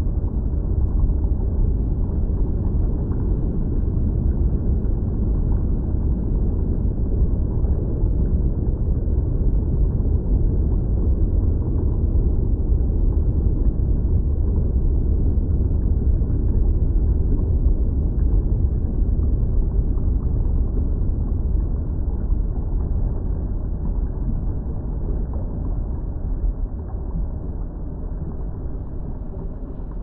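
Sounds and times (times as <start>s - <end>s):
lava rumbling: 0.0s - 30.0s.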